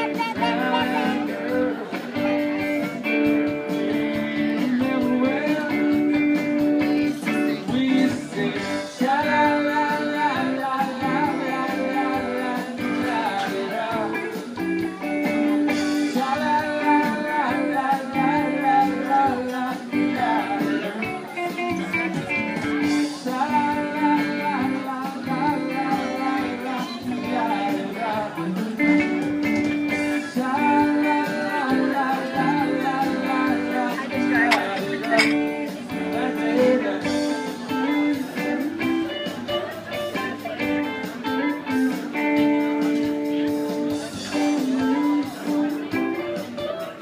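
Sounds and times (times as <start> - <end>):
guitar: 0.0 - 47.0
person singing: 0.0 - 47.0.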